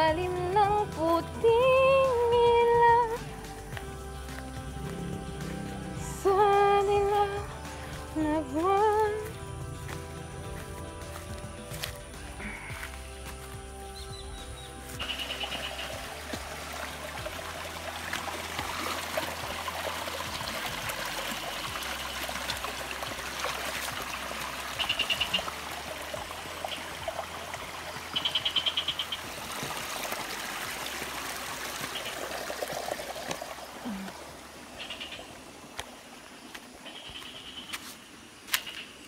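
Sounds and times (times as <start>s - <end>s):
stream trickling over rocks: 0.0s - 37.3s.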